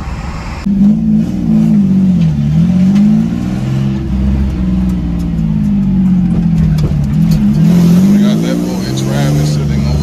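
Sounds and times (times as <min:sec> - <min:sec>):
car engine running loudly: 0:00.0 - 0:10.0.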